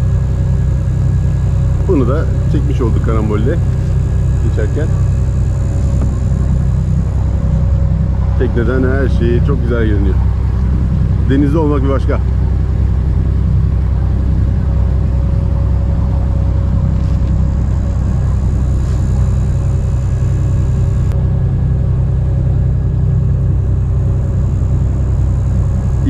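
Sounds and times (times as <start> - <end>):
faint steady hum: 0.0 - 26.0
motor boat engine drone: 0.0 - 26.0.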